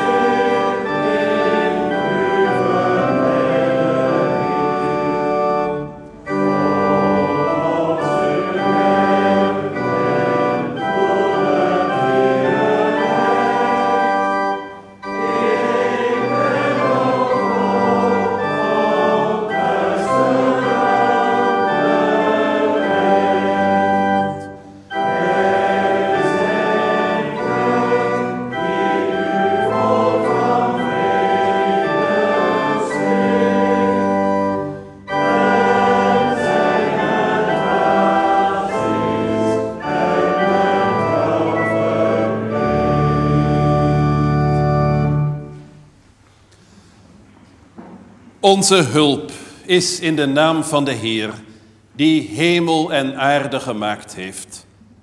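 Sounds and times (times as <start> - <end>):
congregation singing a hymn: 0.0 - 45.9, 48.4 - 51.4, 52.0 - 54.9
organ accompaniment: 0.0 - 46.6, 48.4 - 54.8.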